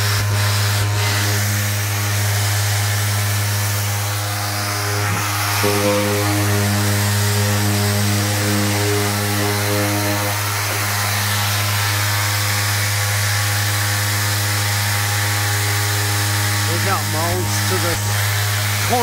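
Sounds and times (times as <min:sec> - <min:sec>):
higher hum tones: 0:00.0 - 0:19.0
orbital sander sanding metal: 0:00.0 - 0:19.0.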